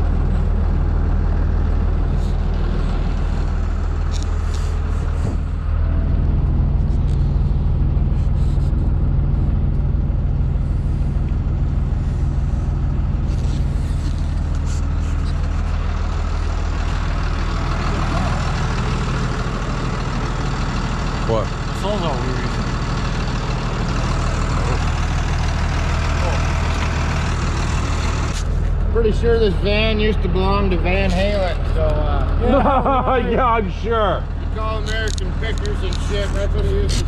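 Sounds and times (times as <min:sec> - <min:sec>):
truck engine running: 0:00.0 - 0:37.0.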